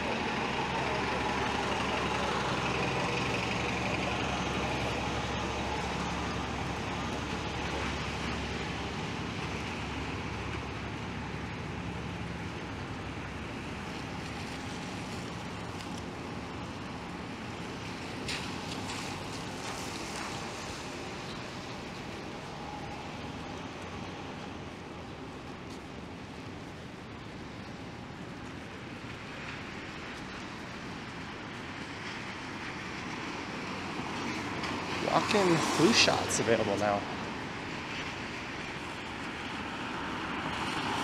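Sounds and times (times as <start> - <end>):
traffic hiss on wet road: 0.0 - 41.0
vehicle engine humming: 0.0 - 41.0.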